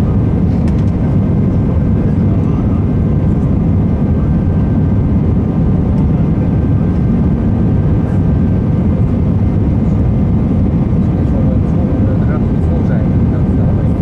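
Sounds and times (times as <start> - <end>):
jet engine cabin roar: 0.0 - 14.0.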